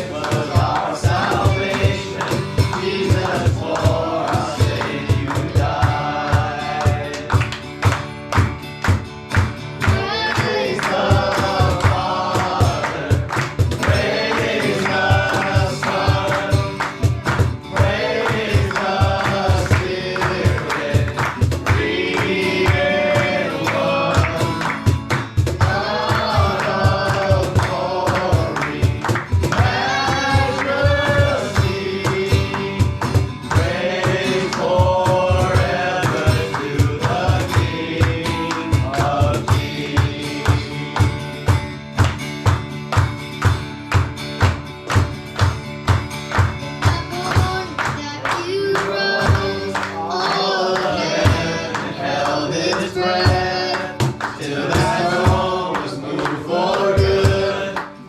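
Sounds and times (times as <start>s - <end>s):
group singing with band: 0.0s - 8.0s, 9.8s - 41.4s, 46.8s - 58.0s
quick drum beat: 0.0s - 52.0s, 52.8s - 57.8s.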